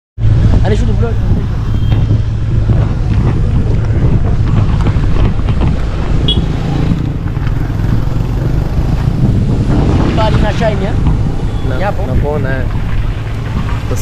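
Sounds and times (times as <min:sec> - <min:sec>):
vehicle low rumble: 0:00.2 - 0:14.0
wind buffeting microphone: 0:00.2 - 0:14.0.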